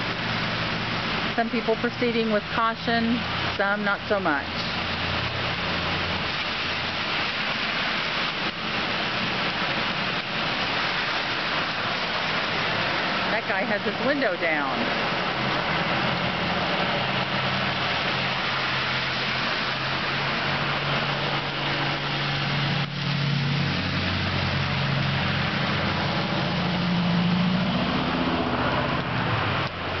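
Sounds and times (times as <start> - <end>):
car engines running: 0.0 - 30.0.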